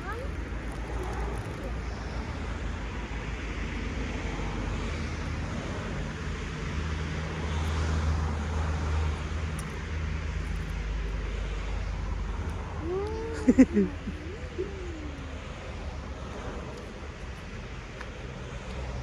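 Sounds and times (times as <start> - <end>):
passing vehicle engine rumble: 0.0 - 19.0.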